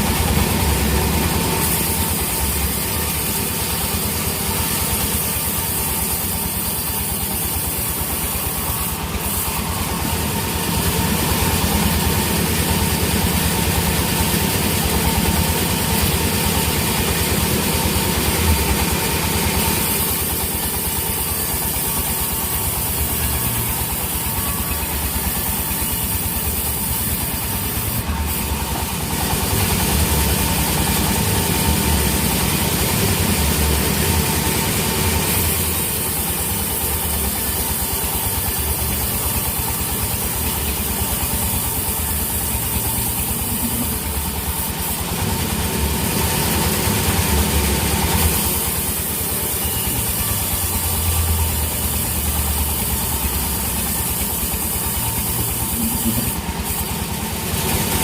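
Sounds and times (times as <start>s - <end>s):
loud high hiss: 0.0s - 58.0s
sawmill machinery droning: 0.0s - 58.0s.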